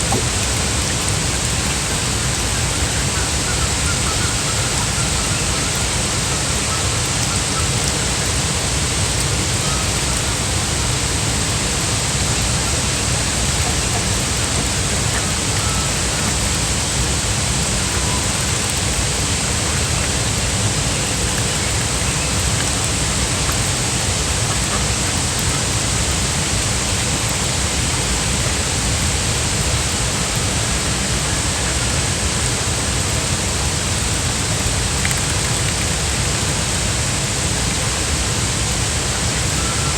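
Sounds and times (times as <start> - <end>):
steady water hiss: 0.0 - 39.9.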